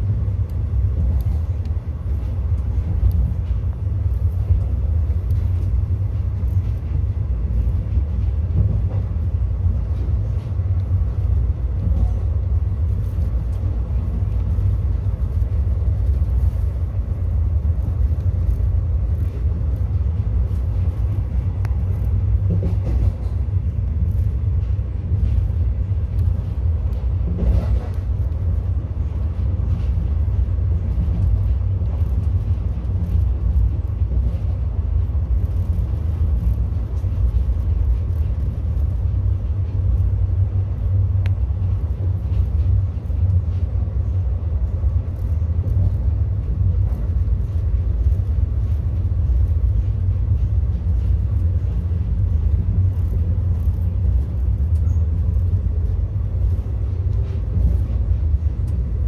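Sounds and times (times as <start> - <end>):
train coach rumble: 0.0 - 59.0.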